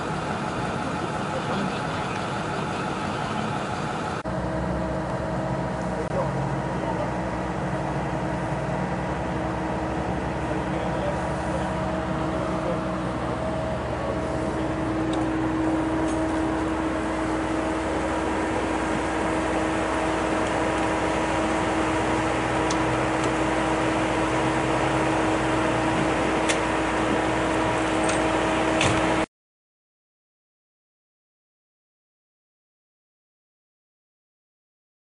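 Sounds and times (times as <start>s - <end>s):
machine hum: 0.0s - 29.3s.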